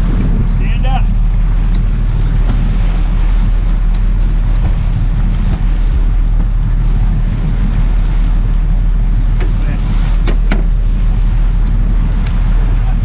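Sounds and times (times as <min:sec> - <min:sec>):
boat engine rumble: 0:00.0 - 0:13.0
water churning: 0:00.0 - 0:13.0
wind buffeting microphone: 0:00.0 - 0:13.0.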